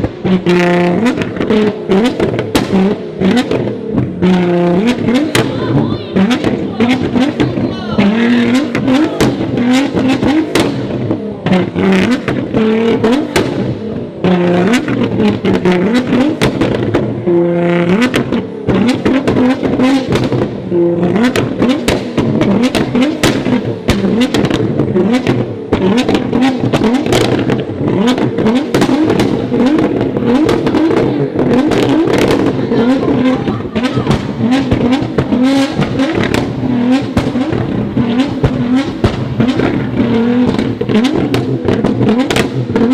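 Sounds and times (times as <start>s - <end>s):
car engine revving hard: 0.0s - 42.9s
sharp exhaust pops: 0.0s - 42.9s.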